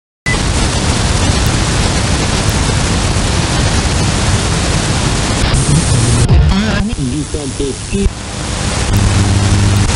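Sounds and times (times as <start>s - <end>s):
choppy low rumble: 0.3s - 9.9s
radio interference rushing noise: 0.3s - 9.9s.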